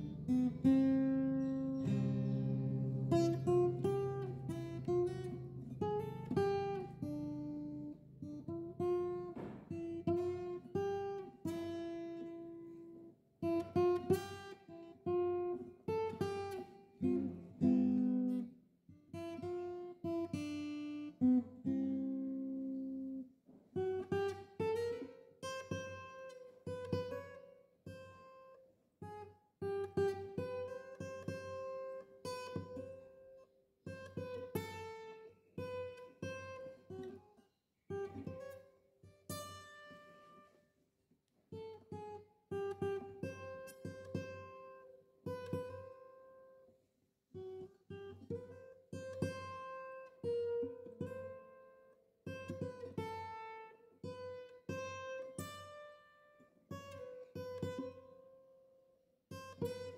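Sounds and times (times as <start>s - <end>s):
acoustic guitar picking and strumming: 0.0s - 18.5s, 19.1s - 40.6s, 41.5s - 46.6s, 47.4s - 58.3s.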